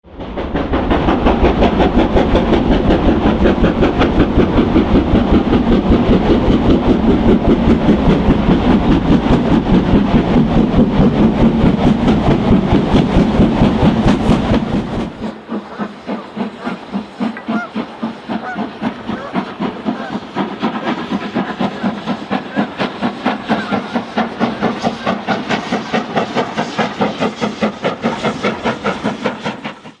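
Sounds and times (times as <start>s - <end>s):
train running: 0.0s - 30.0s.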